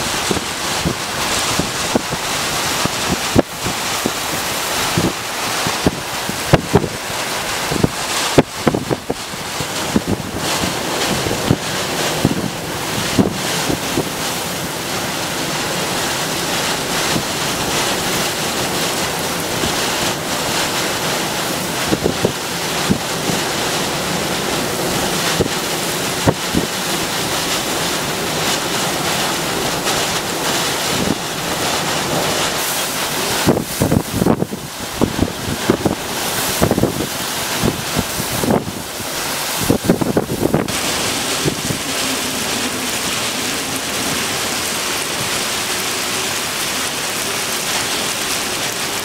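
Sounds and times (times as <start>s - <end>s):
storm wind buffeting microphone: 0.0s - 49.0s.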